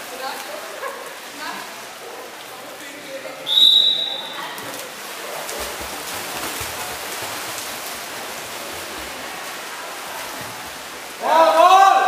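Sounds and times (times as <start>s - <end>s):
echoing pool hall noise: 0.0s - 12.0s
water splashing and churning: 0.0s - 12.0s.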